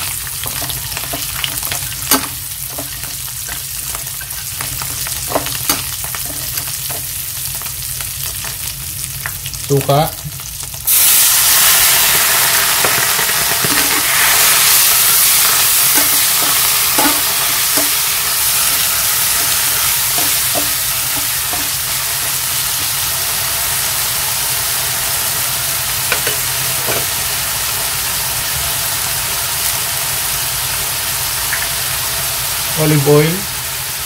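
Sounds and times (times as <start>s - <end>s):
fish sizzling in a pan: 0.0s - 34.0s.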